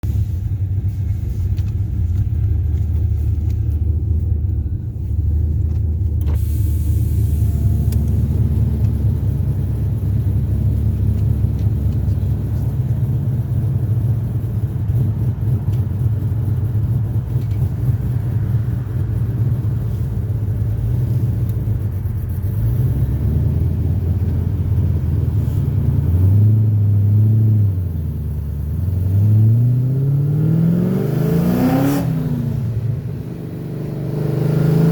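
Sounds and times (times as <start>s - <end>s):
car engine deep rumble: 0.0s - 34.9s.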